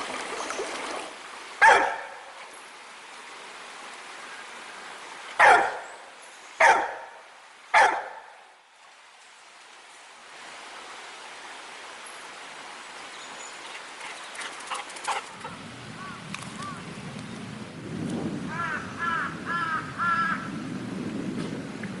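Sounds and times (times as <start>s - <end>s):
stream water running: 0.0s - 20.2s.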